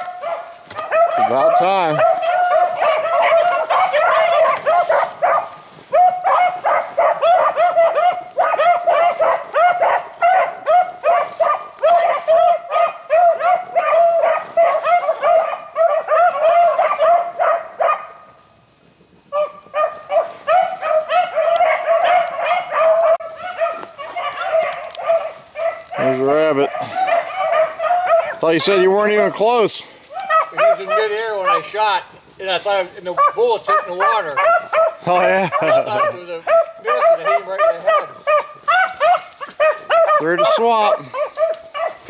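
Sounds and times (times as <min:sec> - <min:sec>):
hound barking rapidly: 0:00.0 - 0:18.3, 0:19.2 - 0:42.0.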